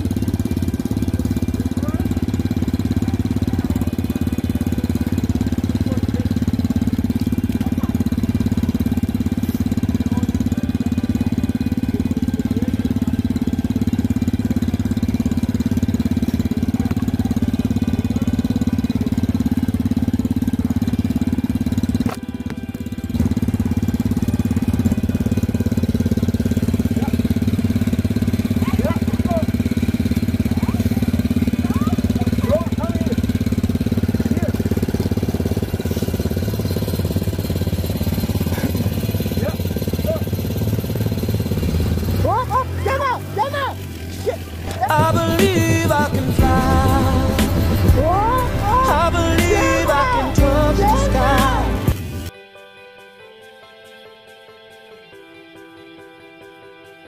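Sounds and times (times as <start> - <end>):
off-road vehicle engine idling: 0.0 - 52.3.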